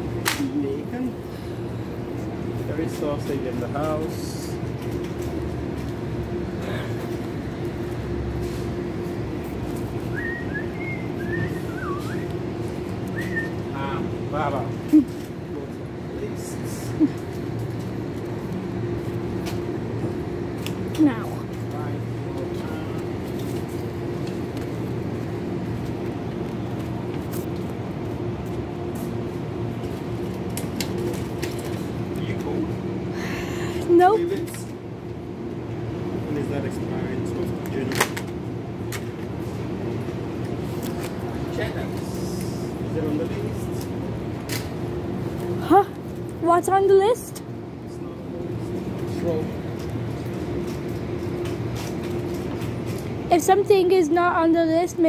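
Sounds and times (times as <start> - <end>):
refrigerator and ventilation hum: 0.0 - 55.0.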